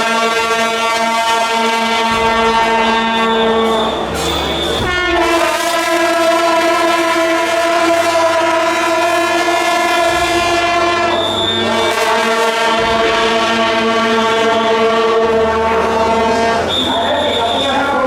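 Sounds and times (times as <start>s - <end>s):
sustained horn tone: 0.0s - 18.0s.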